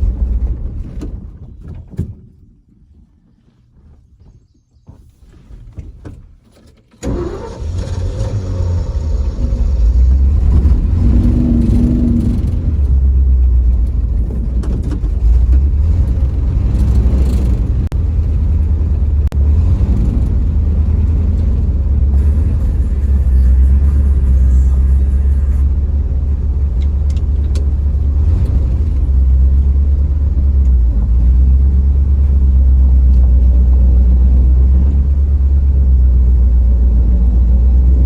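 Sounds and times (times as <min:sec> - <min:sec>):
truck engine running deep: 0:07.0 - 0:38.0.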